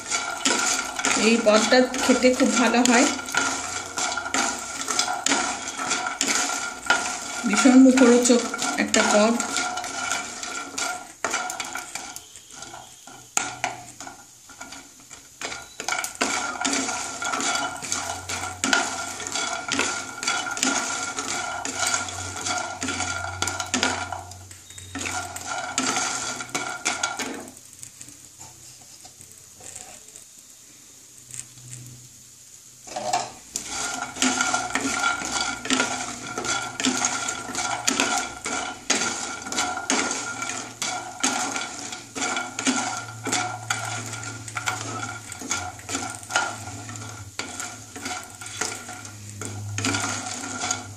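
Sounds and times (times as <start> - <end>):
spatula scraping pan: 0.0 - 30.2, 32.8 - 50.9.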